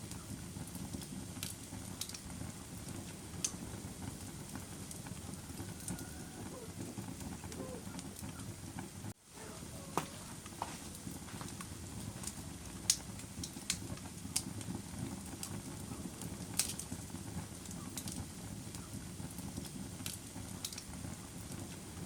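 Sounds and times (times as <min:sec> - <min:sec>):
fire crackling and popping: 0:00.0 - 0:22.0
wood fire rustling: 0:00.0 - 0:22.0.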